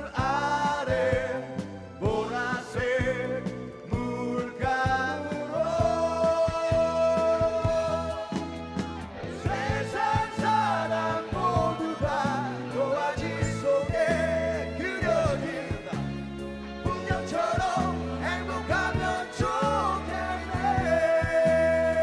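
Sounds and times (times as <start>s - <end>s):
live band playing: 0.0s - 22.0s
men singing together: 0.0s - 22.0s.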